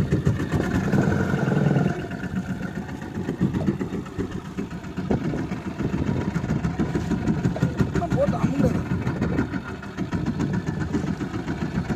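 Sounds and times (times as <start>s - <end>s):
boat engine rumbling: 0.0s - 11.9s.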